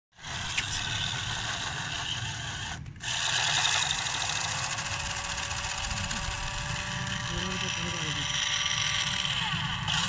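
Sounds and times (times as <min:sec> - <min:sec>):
toy car motor whirring: 0:00.2 - 0:10.0.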